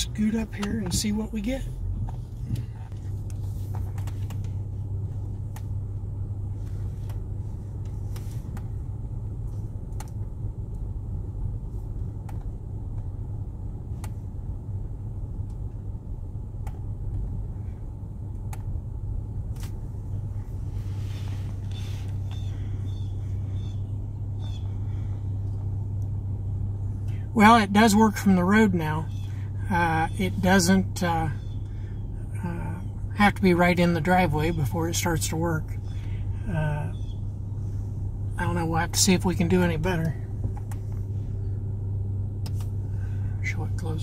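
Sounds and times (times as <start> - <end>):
car engine and tyres hum: 0.0 - 44.0.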